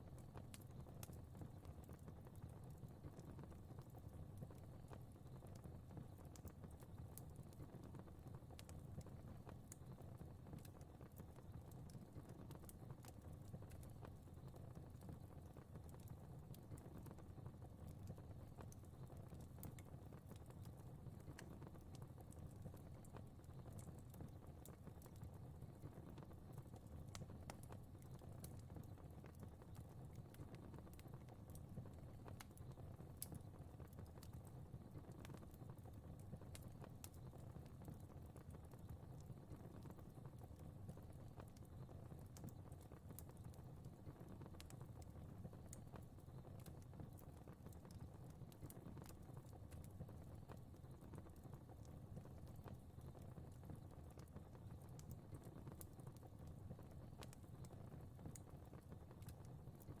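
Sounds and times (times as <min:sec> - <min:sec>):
low rumble of flames: 0:00.0 - 1:00.0
fire crackling: 0:00.1 - 1:00.0.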